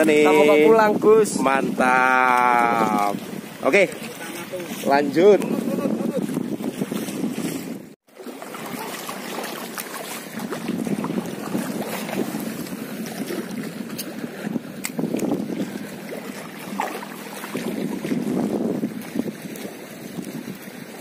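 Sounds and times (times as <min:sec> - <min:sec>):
wind buffeting microphone: 0:00.0 - 0:08.0, 0:10.1 - 0:21.0
choppy water: 0:00.0 - 0:21.0.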